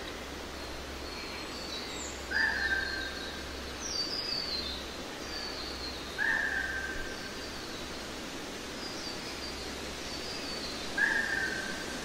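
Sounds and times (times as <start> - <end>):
background hiss and low hum: 0.0 - 12.0
birdsong: 0.0 - 12.0.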